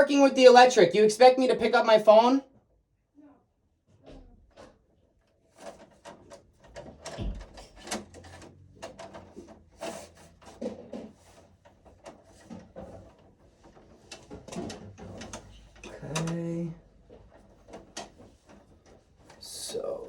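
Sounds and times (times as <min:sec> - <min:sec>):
hands working wiring and tools: 0:03.7 - 0:20.0.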